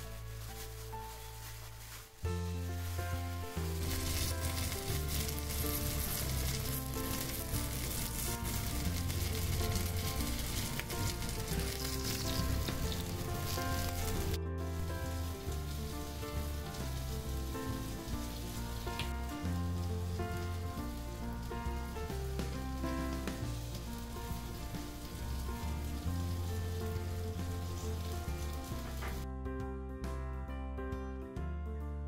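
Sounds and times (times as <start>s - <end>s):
background music: 0.0s - 32.0s
chicken sizzling in frying pan: 2.4s - 29.2s.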